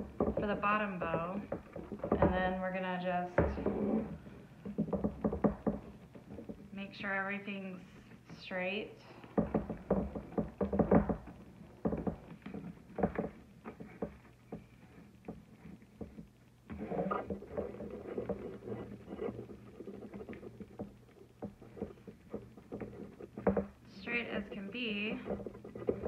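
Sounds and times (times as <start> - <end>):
taps and knocks: 0.0 - 7.2, 9.1 - 26.0.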